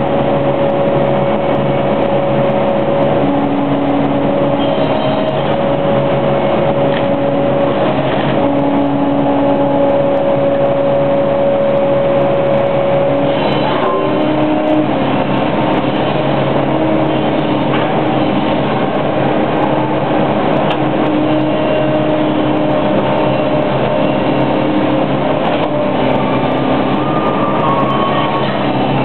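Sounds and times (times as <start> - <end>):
excavator diesel engine running: 0.0 - 29.0
hydraulic whine: 0.0 - 29.0.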